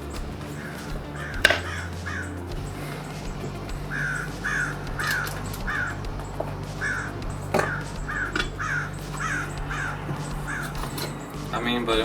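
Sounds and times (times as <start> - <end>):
low steady hum: 0.0 - 12.0
bird cawing: 0.2 - 12.0.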